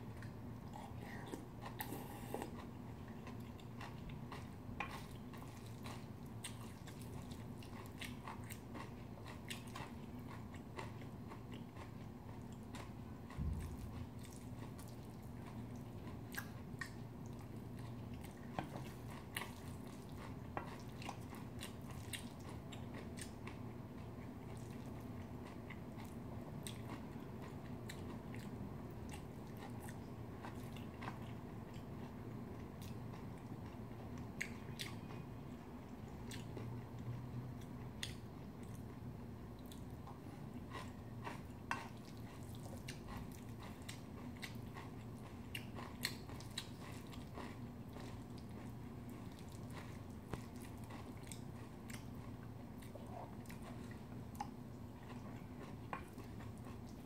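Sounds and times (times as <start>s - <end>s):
close chewing of food: 0.0s - 57.0s
steady low hum: 0.0s - 57.0s.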